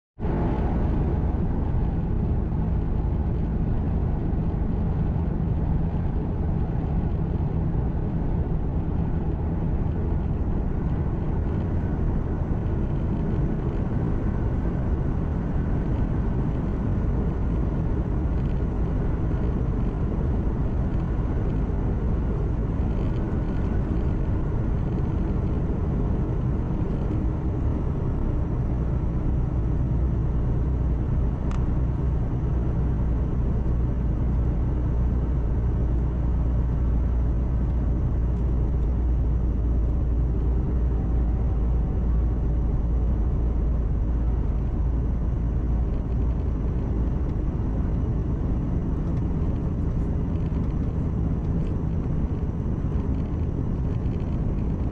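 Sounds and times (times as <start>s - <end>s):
truck engine rumble: 0.2s - 54.9s
tyre and road noise: 0.2s - 54.9s.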